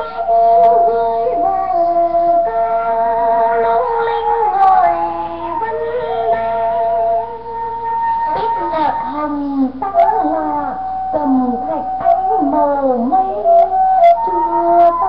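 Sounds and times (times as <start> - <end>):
radio drama background music: 0.0 - 15.0.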